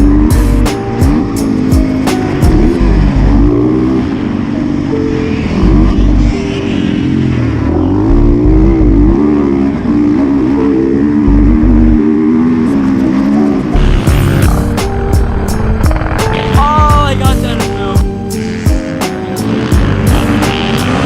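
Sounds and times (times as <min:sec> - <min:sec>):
pit bike engine revving: 0:00.0 - 0:21.0.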